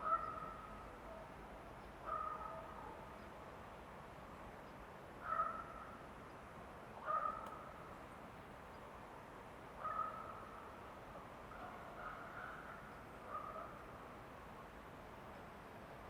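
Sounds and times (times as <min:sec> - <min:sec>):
faint forest ambience hiss: 0:00.0 - 0:16.0.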